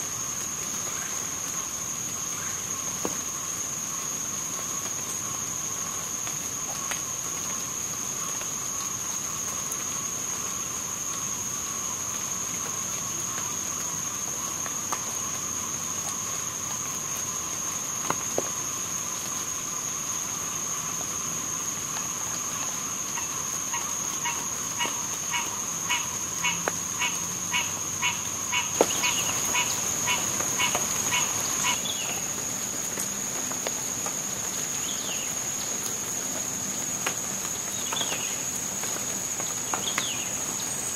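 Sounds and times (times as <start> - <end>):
insect chorus high-pitched whine: 0.0 - 40.9
low steady insect hum: 0.0 - 40.9.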